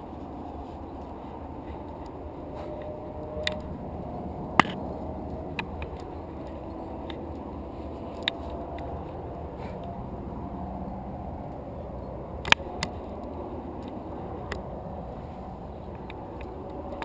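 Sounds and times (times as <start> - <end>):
steady low rush: 0.0 - 17.0.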